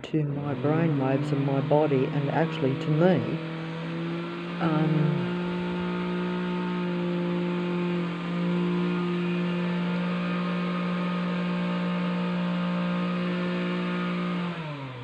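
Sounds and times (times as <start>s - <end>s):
low mechanical drone: 0.0s - 12.4s.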